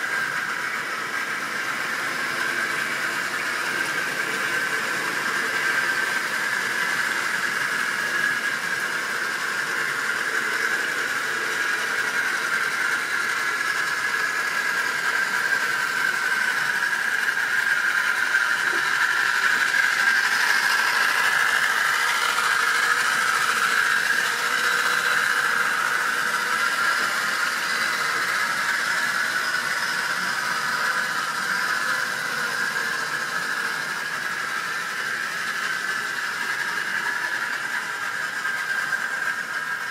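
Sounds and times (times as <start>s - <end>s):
small electric motor whining: 0.0s - 39.9s
wheels rolling on rails: 0.0s - 39.9s.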